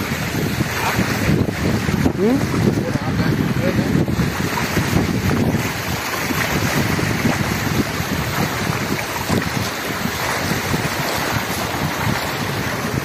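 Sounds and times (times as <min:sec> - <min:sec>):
floodwater rushing: 0:00.0 - 0:13.0
wind buffeting microphone: 0:00.0 - 0:13.0.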